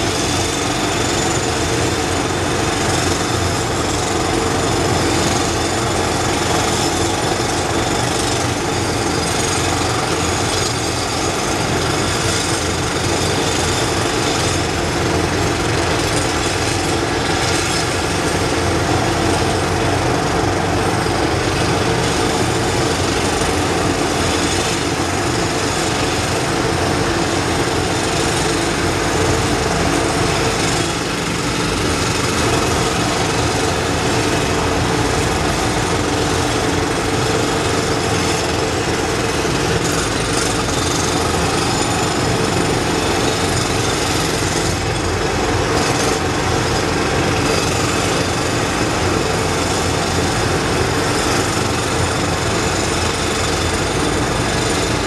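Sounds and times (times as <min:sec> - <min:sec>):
jackhammers hammering concrete: 0:00.0 - 0:55.0.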